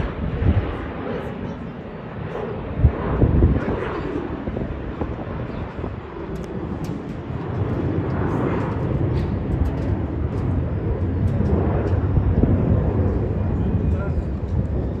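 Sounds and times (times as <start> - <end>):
jet airliner engines thundering: 0.0 - 15.0.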